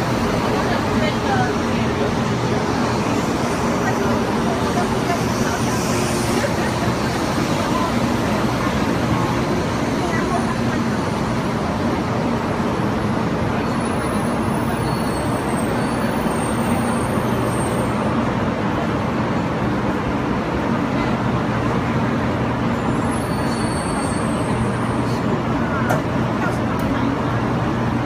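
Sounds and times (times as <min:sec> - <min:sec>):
moving vehicle rumble and hiss: 0:00.0 - 0:28.0.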